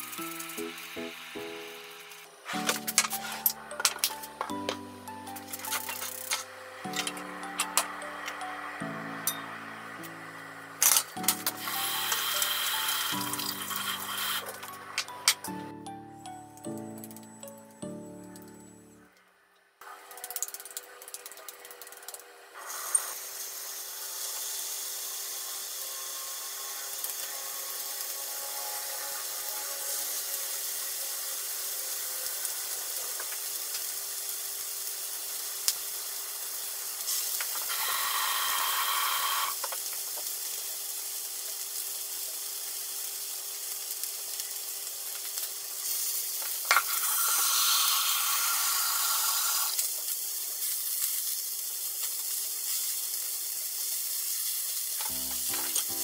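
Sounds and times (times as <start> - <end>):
patties sizzling in oil: 0.0 - 15.6, 19.8 - 56.0.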